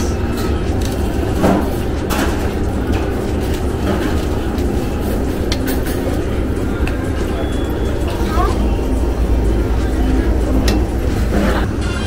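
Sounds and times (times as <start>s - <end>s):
low restaurant rumble: 0.0s - 12.0s
plates and utensils clinking: 0.0s - 12.0s.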